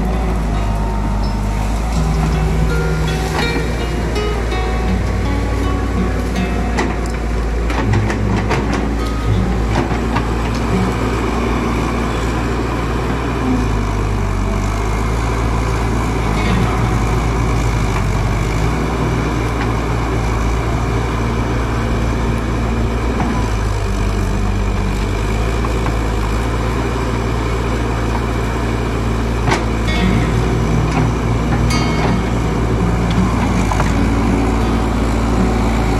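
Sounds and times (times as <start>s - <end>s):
excavator diesel engine drone: 0.0s - 35.9s.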